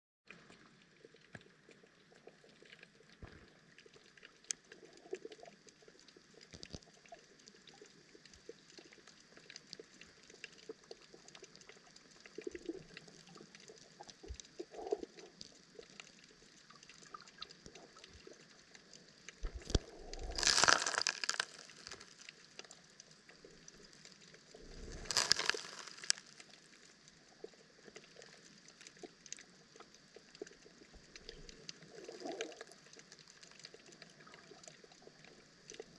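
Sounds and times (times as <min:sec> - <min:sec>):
underwater hiss with crackling clicks: 0:00.4 - 0:35.9.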